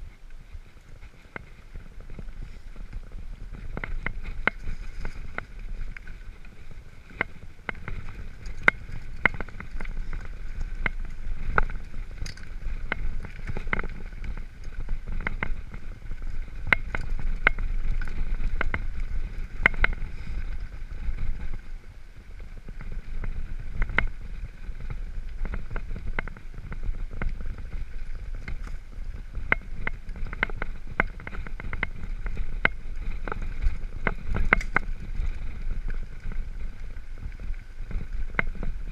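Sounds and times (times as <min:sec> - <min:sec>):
gravel and bike rattles: 0:00.0 - 0:38.9
tyres rumbling on gravel: 0:00.0 - 0:38.9.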